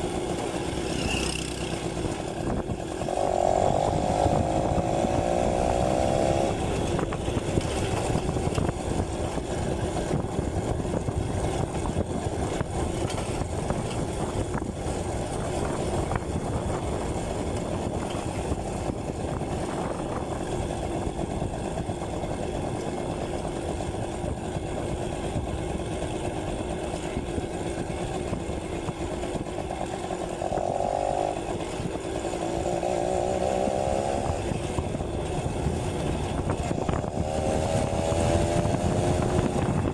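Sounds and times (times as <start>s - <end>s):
motorcycle engine buzzing: 0.0s - 39.9s.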